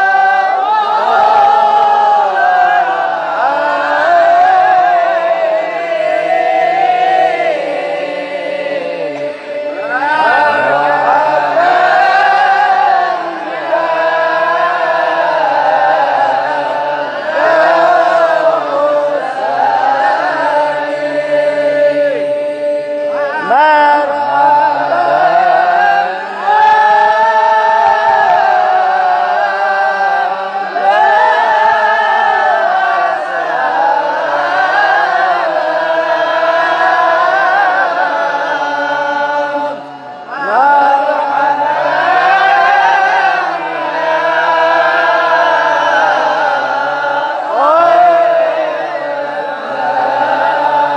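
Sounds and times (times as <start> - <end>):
person singing devotional chant: 0.0 - 50.9.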